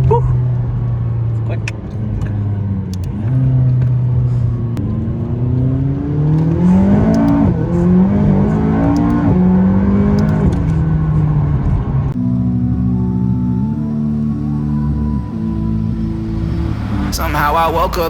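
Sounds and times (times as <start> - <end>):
sports car engine revving: 0.0 - 18.0.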